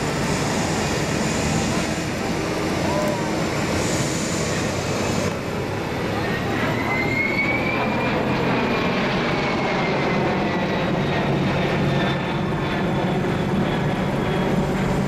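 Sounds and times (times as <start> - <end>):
jet engines running with whine: 0.0 - 15.0.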